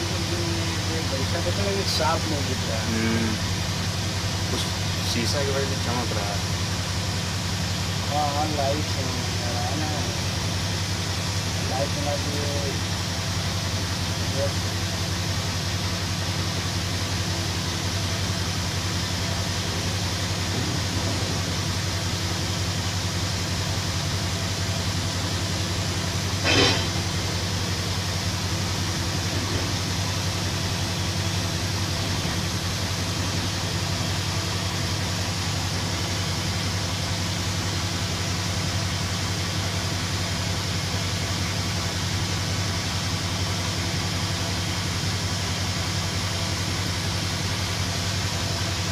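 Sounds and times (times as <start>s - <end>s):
heavy machinery engine drone: 0.0s - 48.9s.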